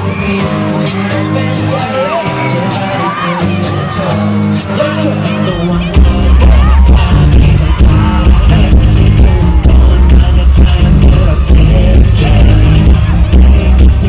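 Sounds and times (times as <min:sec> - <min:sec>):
backing track with heavy bass: 0:00.0 - 0:14.0
group singing: 0:00.0 - 0:14.0.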